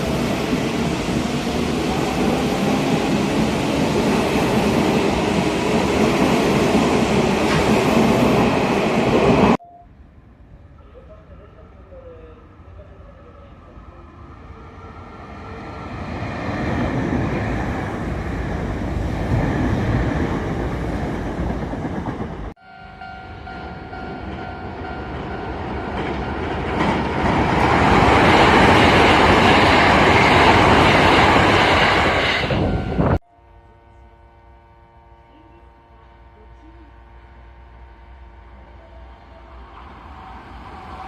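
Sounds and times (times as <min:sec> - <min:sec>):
trains running on rails: 0:00.0 - 0:09.6, 0:10.4 - 0:41.0.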